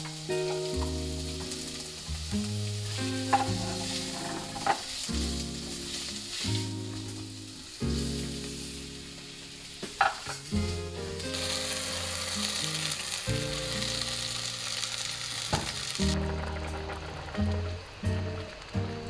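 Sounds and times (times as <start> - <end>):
soft background music: 0.0 - 19.0
vegetables sizzling in a pot: 0.0 - 19.0.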